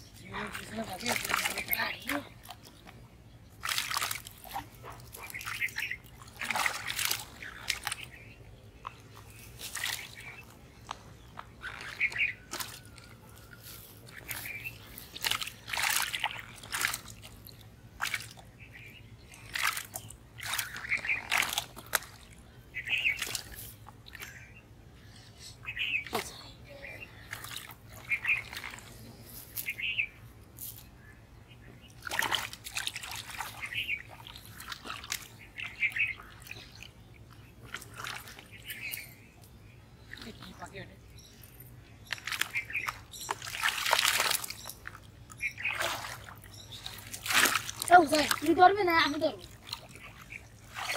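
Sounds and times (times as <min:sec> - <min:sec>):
pond water splashing and sloshing: 0:00.0 - 0:50.9.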